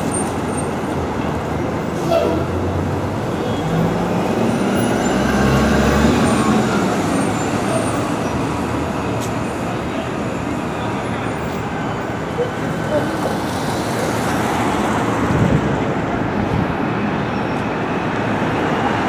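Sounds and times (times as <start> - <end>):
city traffic noise: 0.0 - 19.0
heavy vehicle engine rumbling: 0.0 - 19.0.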